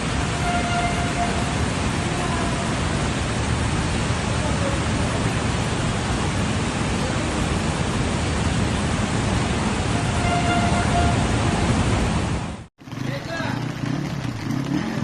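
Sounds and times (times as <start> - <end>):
rush of floodwater: 0.0 - 15.0.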